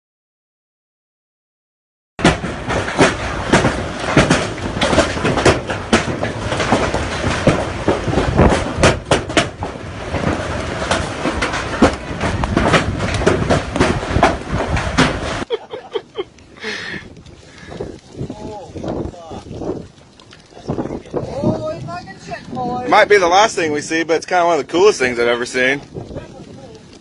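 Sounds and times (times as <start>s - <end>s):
thunder rumble with crackles: 2.2s - 27.0s.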